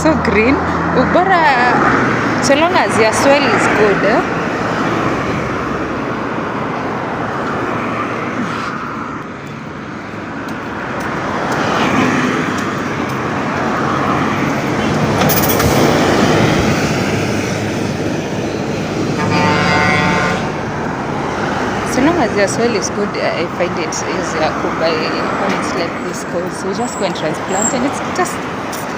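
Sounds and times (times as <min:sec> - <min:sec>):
road traffic passing: 0:00.0 - 0:28.9.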